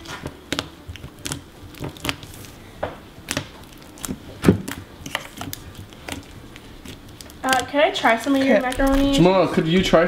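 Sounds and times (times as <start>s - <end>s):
wet slime squishes: 0.0s - 10.0s.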